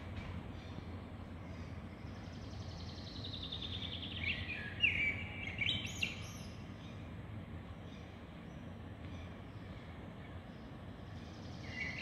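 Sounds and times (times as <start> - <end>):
city background rumble: 0.0 - 12.0
songbird singing: 0.0 - 12.0.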